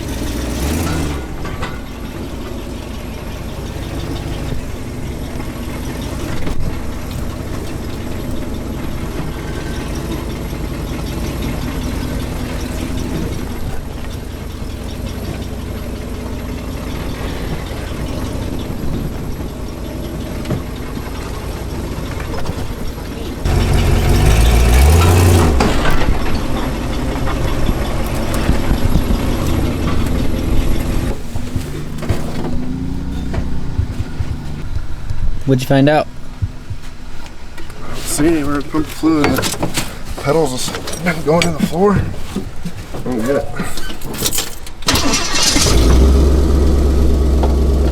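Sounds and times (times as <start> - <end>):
vehicle engine idling: 0.0 - 47.9.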